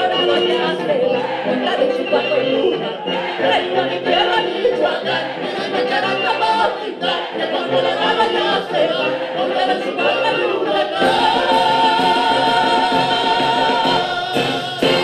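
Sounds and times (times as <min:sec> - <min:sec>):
music with singing: 0:00.0 - 0:15.0.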